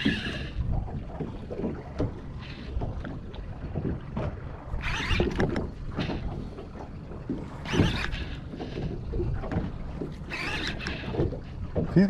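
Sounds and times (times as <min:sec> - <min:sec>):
water lapping at boat: 0:00.0 - 0:12.0.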